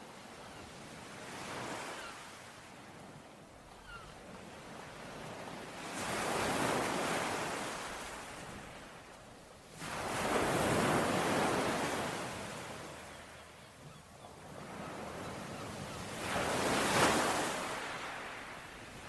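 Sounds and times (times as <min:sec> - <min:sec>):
sea waves on shore: 0:00.0 - 0:19.0.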